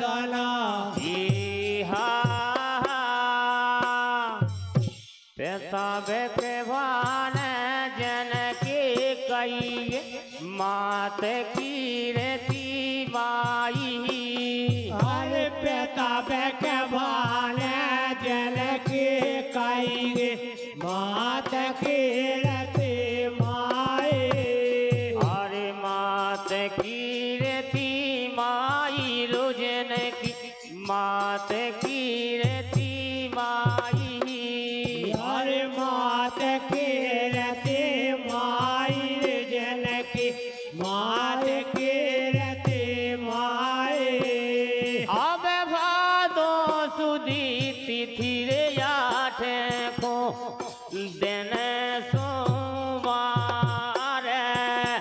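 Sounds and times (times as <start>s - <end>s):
voices singing devotional song: 0.0s - 55.0s.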